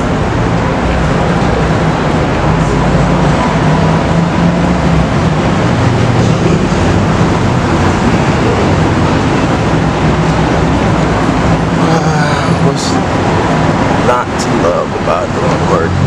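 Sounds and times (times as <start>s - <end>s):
cars passing: 0.0s - 16.0s
low engine rumble: 0.0s - 16.0s.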